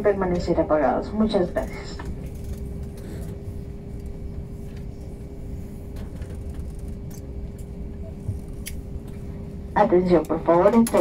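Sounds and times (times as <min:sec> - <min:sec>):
aircraft cabin rumble and hum: 0:00.0 - 0:11.0.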